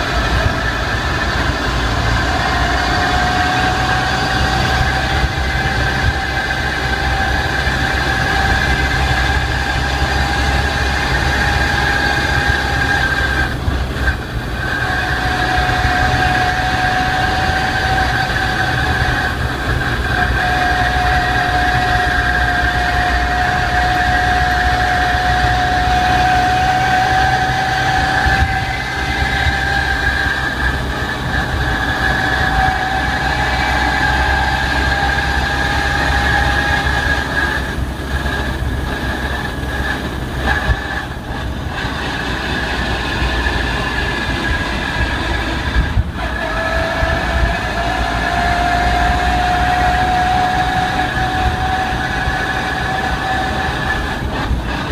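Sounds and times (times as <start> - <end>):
car drivetrain whine: 0.0 - 54.9
low rumble of car: 0.0 - 54.9.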